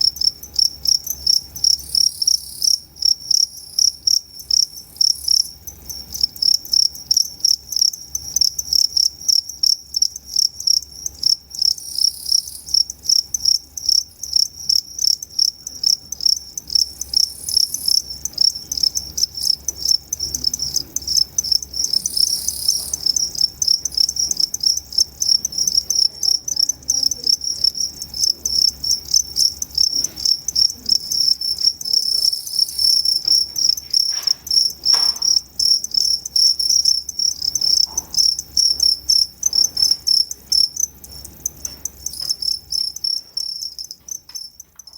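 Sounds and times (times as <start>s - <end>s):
crickets chirping: 0.0s - 44.9s.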